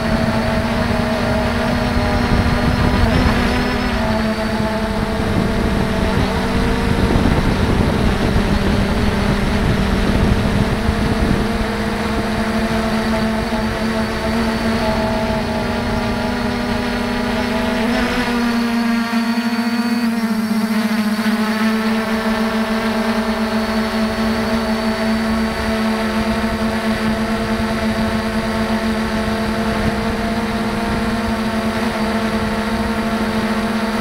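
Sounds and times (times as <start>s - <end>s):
wind rumble on microphone: 0.0s - 18.8s, 21.9s - 34.0s
drone motors and propellers humming: 0.0s - 34.0s.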